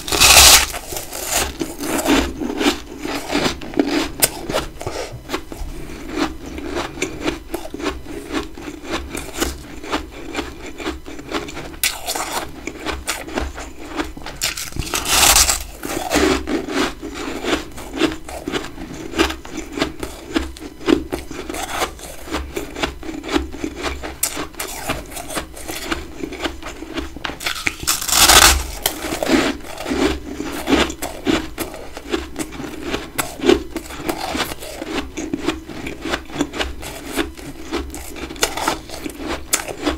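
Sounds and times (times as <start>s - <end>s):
person chewing crunchy frost: 0.0s - 39.9s.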